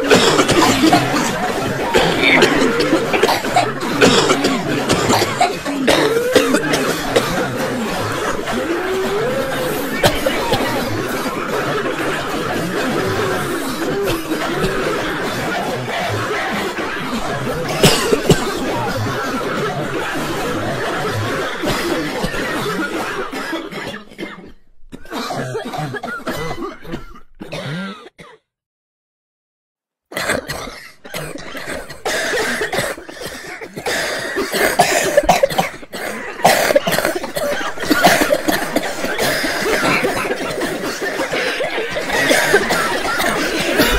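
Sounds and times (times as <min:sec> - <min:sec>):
crowd coughing: 0:00.0 - 0:28.4, 0:30.1 - 0:43.9.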